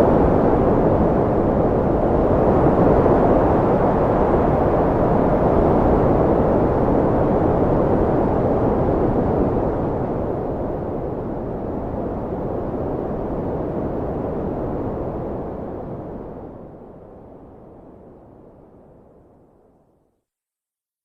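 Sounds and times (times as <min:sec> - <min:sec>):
strong wind blowing: 0:00.0 - 0:17.7.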